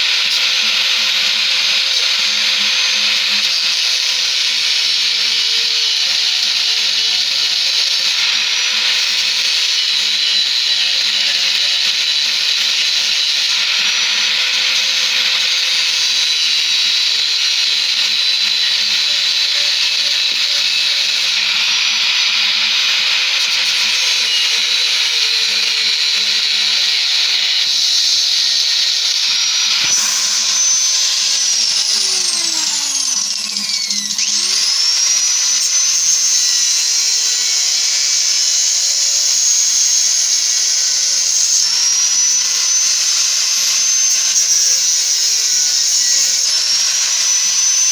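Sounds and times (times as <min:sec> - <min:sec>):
power tool whining: 0:00.0 - 0:47.9.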